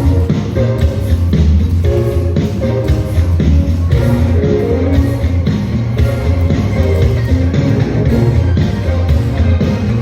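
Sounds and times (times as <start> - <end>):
pop music with steady bass: 0.0 - 10.0.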